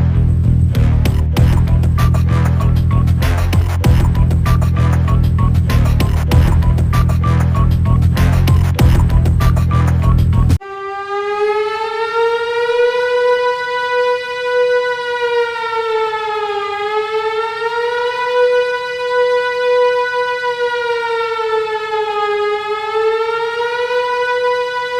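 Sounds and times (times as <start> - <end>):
siren-like buzzy wail: 1.1 - 24.9.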